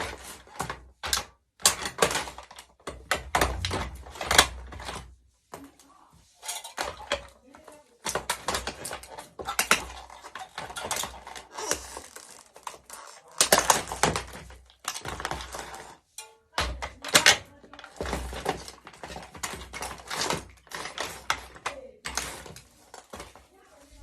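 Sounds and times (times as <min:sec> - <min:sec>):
plastic toy cracking under heels: 0:00.0 - 0:05.0, 0:06.4 - 0:23.5.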